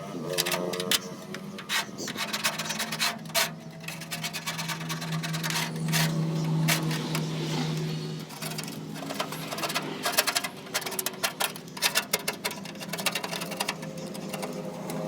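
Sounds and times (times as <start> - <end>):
scrubbing on metal casing: 0.1 - 15.0.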